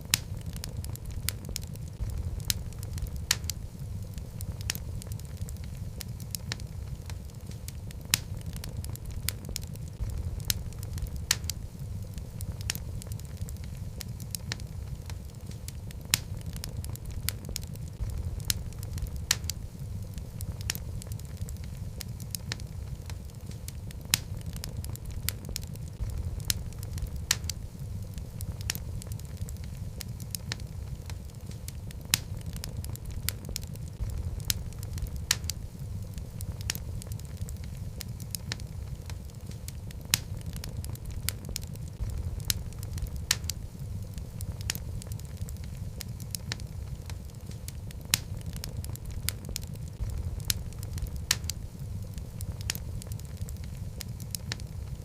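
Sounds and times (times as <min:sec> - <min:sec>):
burning wood popping and snapping: 0:00.0 - 0:55.0
fireplace flames rumbling: 0:00.0 - 0:55.0.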